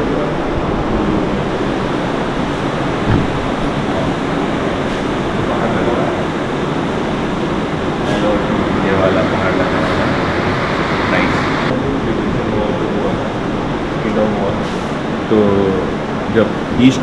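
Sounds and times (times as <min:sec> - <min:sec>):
air conditioning rushing: 0:00.0 - 0:17.0.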